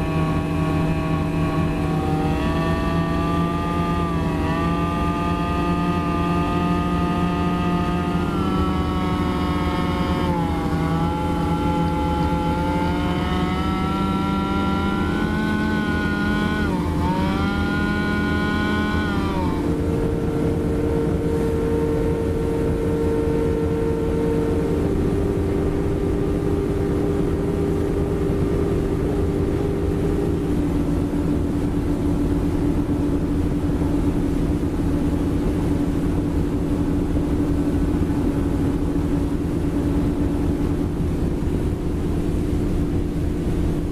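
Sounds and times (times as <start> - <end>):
motorboat engine running: 0.0 - 43.9.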